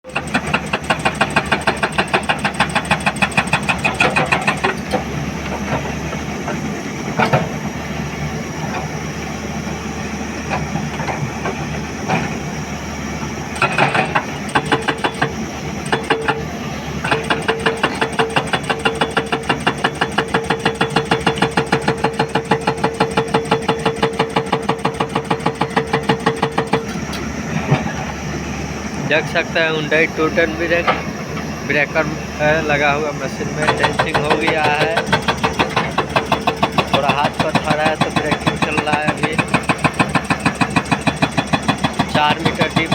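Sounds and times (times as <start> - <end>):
diesel engine running: 0.0 - 42.9
hydraulic rock breaker hammering rock: 0.0 - 42.9.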